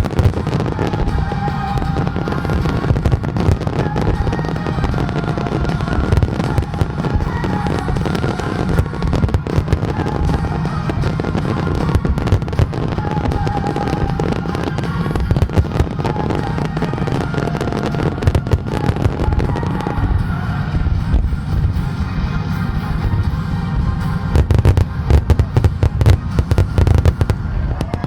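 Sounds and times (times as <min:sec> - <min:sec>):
fireworks bangs: 0:00.0 - 0:28.0
music playing: 0:00.0 - 0:28.0.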